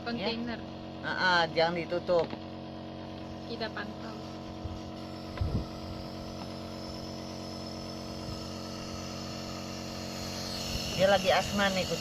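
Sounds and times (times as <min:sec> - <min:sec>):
nebulizer motor humming: 0:00.0 - 0:12.0.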